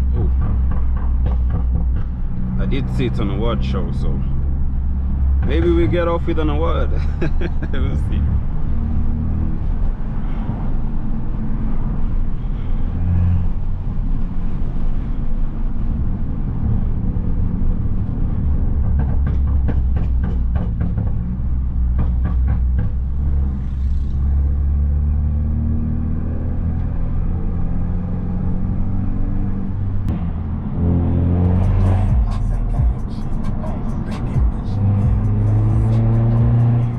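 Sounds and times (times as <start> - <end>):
car exhaust and engine droning: 0.0 - 36.9.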